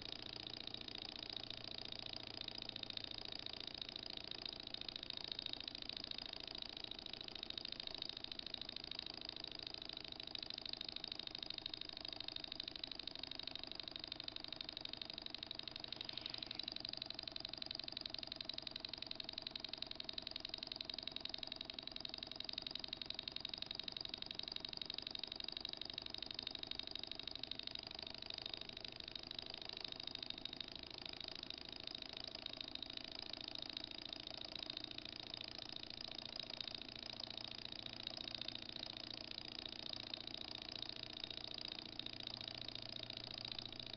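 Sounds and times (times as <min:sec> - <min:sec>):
model engine ticking: 0:00.0 - 0:43.9.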